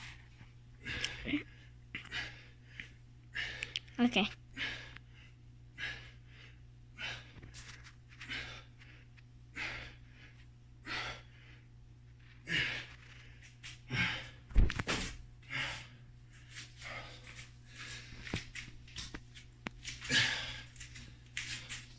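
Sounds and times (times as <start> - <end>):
heavy breaths: 0.8 - 3.9, 4.5 - 11.7, 12.3 - 14.5, 15.4 - 18.7, 19.8 - 21.9.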